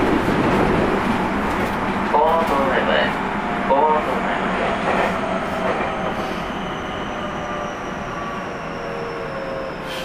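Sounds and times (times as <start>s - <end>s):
train rail and running noise: 0.0s - 10.0s.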